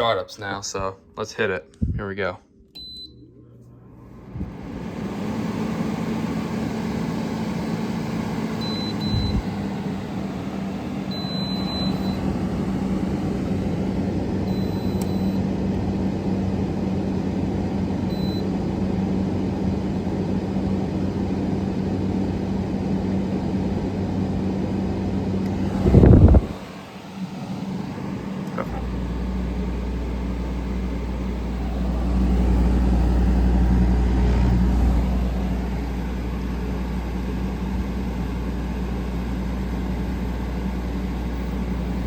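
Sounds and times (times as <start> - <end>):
air conditioner blower fan: 0.0 - 42.0.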